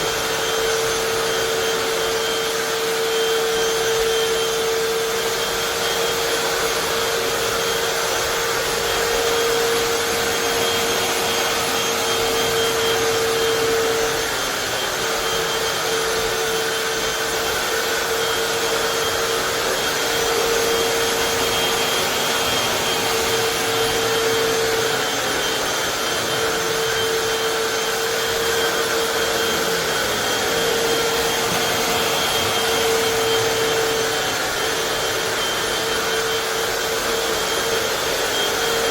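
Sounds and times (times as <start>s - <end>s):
floor cleaner motor whine: 0.0s - 38.9s.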